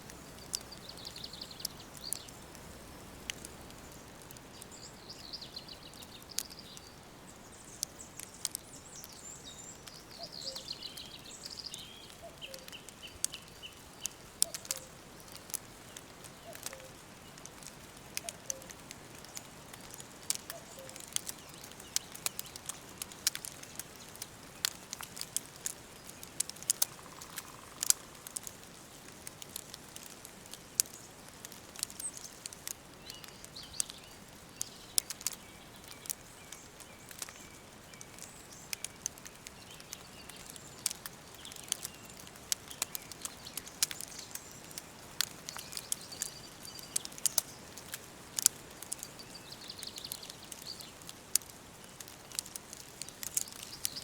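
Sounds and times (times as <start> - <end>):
faint birds chirping: 0.0 - 54.0
wood fire crackling: 0.0 - 54.0.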